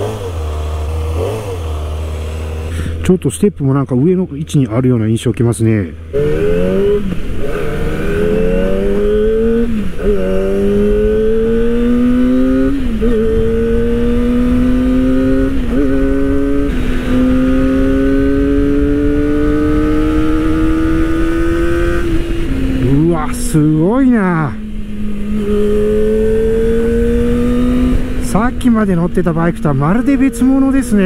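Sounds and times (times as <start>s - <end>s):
motorcycle engine accelerating: 0.0s - 3.1s, 5.9s - 31.0s.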